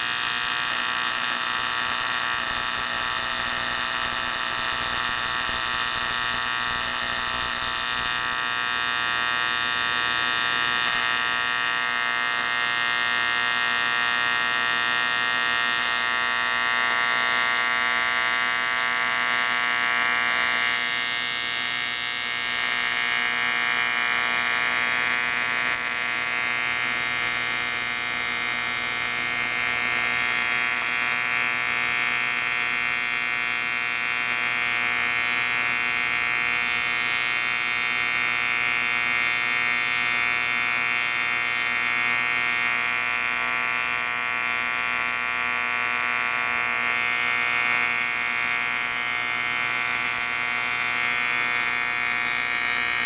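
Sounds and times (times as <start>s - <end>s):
welding arc buzzing: 0.0s - 53.0s.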